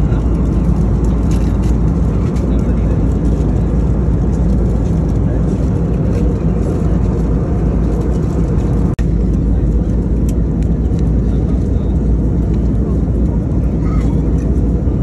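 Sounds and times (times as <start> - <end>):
aircraft cabin engine rumble: 0.0 - 15.0.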